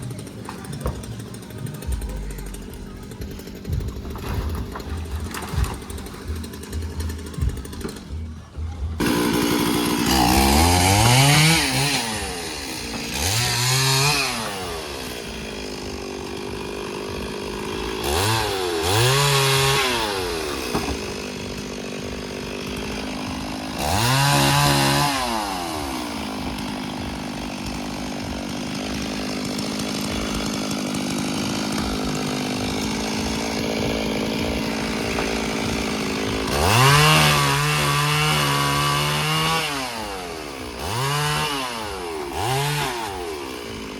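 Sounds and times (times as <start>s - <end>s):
chainsaw revving: 0.0s - 43.9s.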